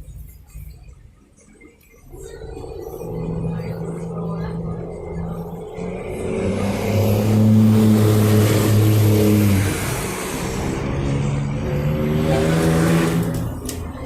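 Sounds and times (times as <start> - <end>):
heavy vehicle engine drone: 0.0 - 14.0.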